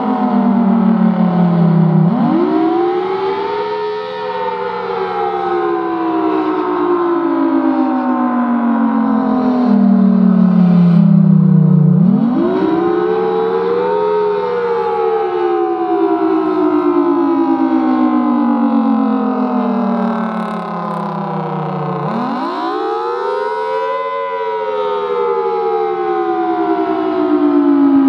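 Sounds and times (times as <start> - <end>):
storm siren sweeping pitch: 0.0 - 28.0.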